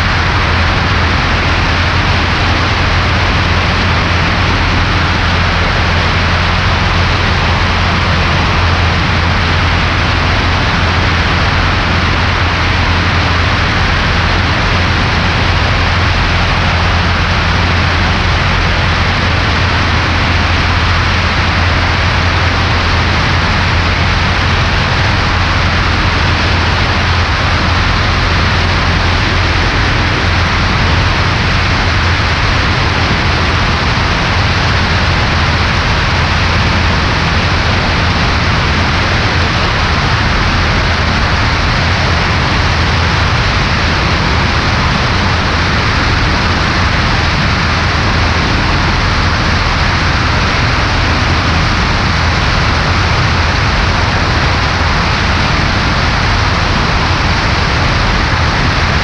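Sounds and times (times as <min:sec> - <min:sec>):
propeller plane engine drone: 0:00.0 - 0:59.0
rushing air: 0:00.0 - 0:59.0.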